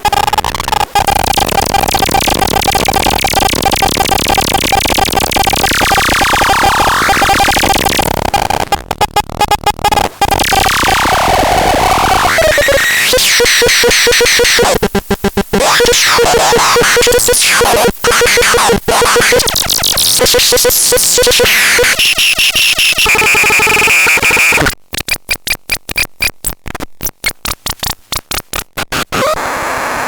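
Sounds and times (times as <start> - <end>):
harsh electronic noise: 0.0 - 30.0.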